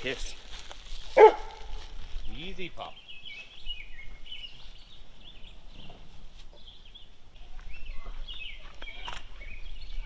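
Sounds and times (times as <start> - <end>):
small birds chirping: 1.2 - 10.0.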